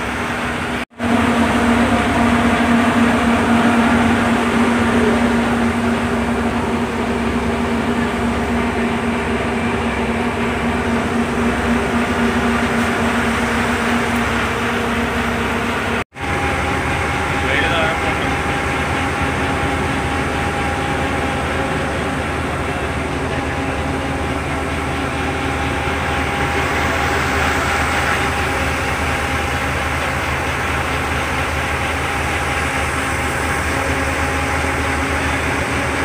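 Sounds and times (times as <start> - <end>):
ferry engine droning: 0.0 - 36.0.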